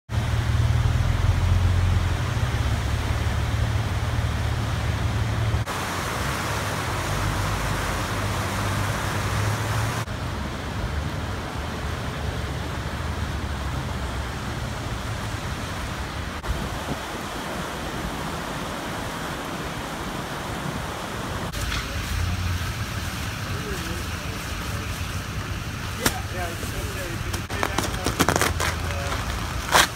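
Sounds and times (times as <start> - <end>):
deep water rumble: 0.1 - 29.8
floodwater rushing: 0.1 - 29.9.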